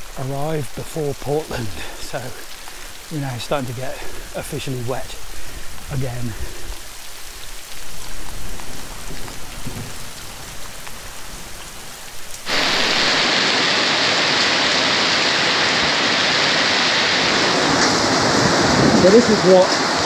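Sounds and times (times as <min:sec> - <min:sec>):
heavy downpour hissing: 0:00.0 - 0:20.0
light rain drops ticking: 0:00.0 - 0:20.0.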